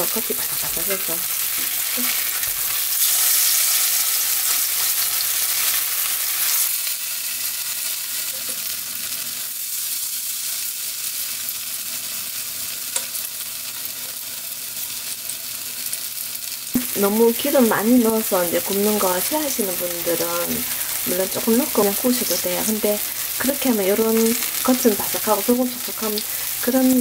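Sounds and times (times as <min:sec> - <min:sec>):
pancakes sizzling in oil: 0:00.0 - 0:27.0.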